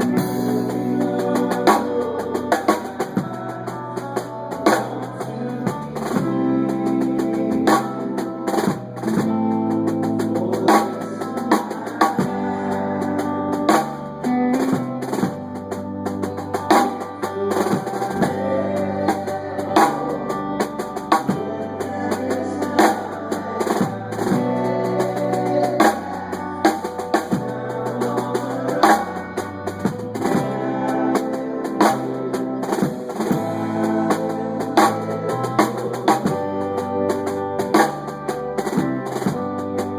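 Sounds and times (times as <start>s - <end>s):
music with drums and bass: 0.0s - 39.9s.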